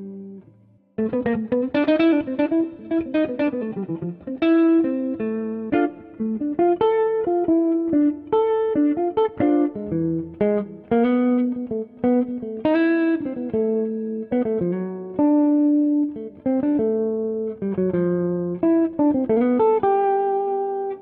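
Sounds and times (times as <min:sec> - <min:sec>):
guitar picking a melody: 0:00.0 - 0:21.0.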